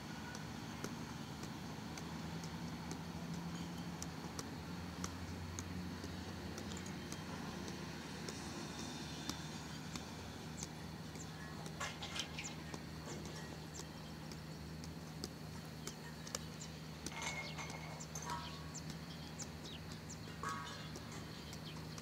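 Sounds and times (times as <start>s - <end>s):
birds chirping: 0.0s - 22.0s
steady low hum: 0.0s - 22.0s.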